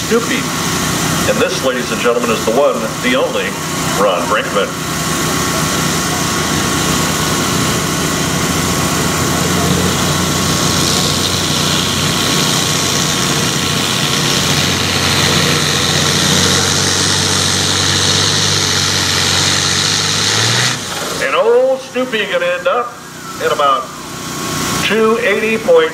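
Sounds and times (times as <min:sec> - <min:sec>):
tractor diesel engine under load: 0:00.0 - 0:25.9.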